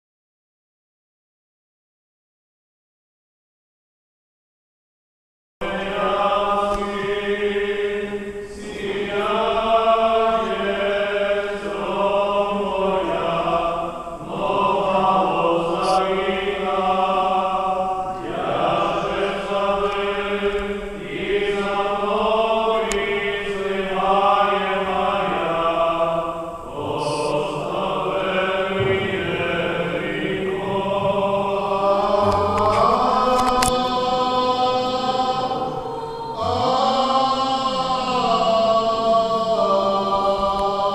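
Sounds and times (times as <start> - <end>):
voices chanting long held notes: 5.6 - 40.9.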